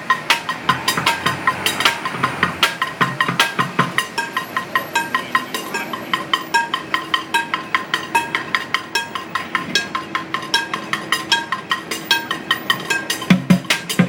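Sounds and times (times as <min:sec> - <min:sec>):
metallic clinking percussion: 0:00.0 - 0:14.0.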